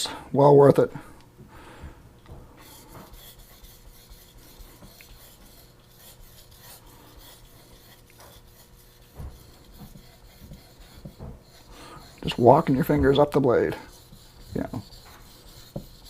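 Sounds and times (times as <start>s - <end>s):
knife rasping on whetstone: 2.6s - 16.0s.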